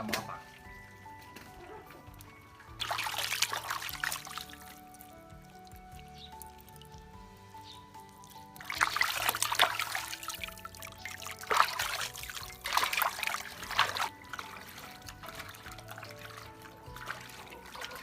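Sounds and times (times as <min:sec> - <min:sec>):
soft background music: 0:00.0 - 0:18.0
water splashing and trickling: 0:00.0 - 0:18.0.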